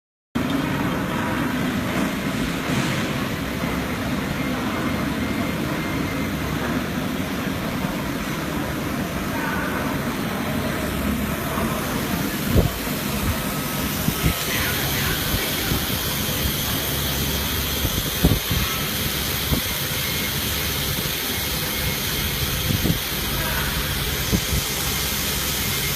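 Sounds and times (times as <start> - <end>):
machining center humming: 0.4 - 25.9.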